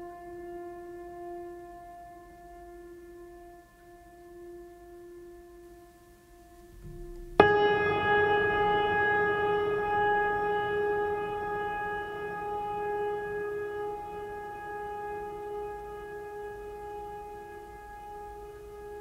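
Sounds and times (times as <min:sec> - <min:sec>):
calm music of ringing tones: 0:00.0 - 0:19.0.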